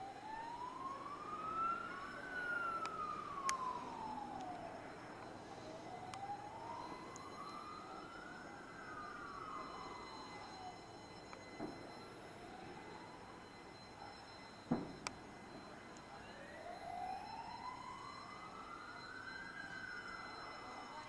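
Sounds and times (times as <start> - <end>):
emergency vehicle siren wailing: 0.0 - 21.0.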